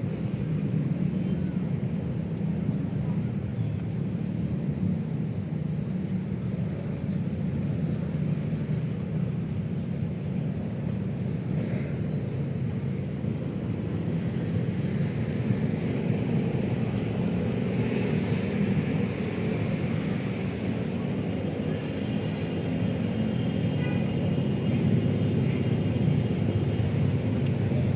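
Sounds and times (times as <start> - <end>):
city road traffic hum: 0.0 - 27.9.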